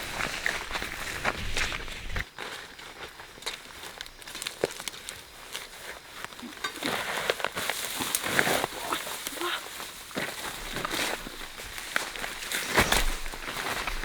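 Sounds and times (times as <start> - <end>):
dry vegetation rustling: 0.0 - 14.0.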